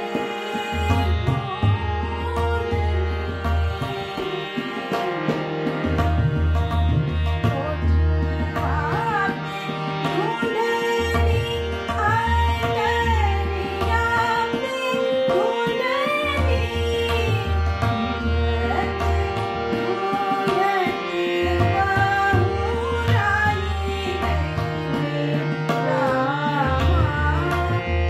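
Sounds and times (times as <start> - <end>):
tabla drumming: 0.0 - 28.0.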